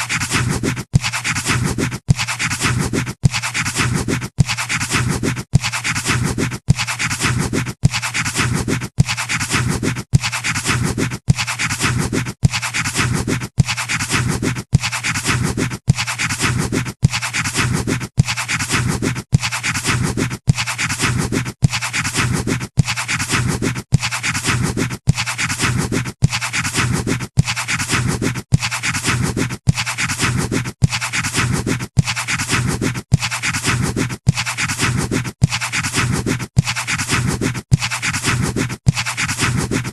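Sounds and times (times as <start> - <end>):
pencil scratching on paper: 0.0 - 39.9.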